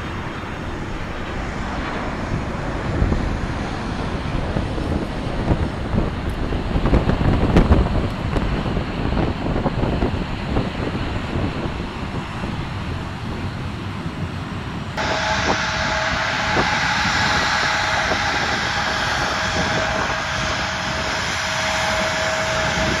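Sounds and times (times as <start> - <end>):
distant airport rumble: 0.0 - 23.0
jet engines whining while taxiing: 0.0 - 23.0
wind: 0.0 - 23.0.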